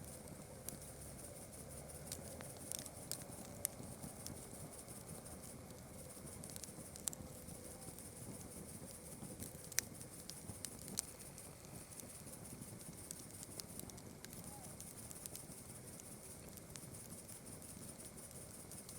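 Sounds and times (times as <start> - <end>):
campfire crackling: 0.0 - 18.9
night insects chorus: 0.0 - 18.9.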